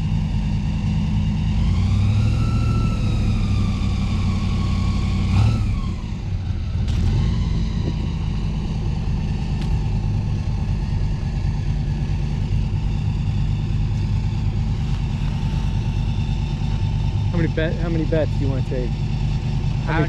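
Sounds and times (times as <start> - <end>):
airboat engine and propeller: 0.0 - 20.0.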